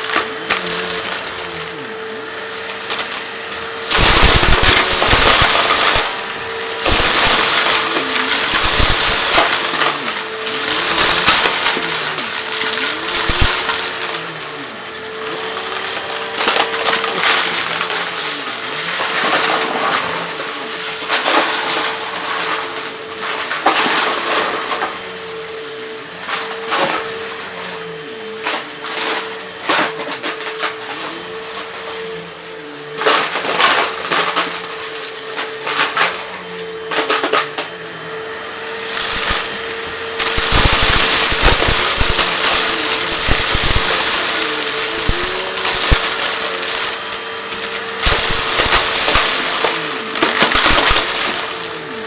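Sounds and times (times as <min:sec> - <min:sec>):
debris crunching in vacuum: 0:00.0 - 0:52.0
vacuum cleaner motor whine: 0:00.0 - 0:52.0.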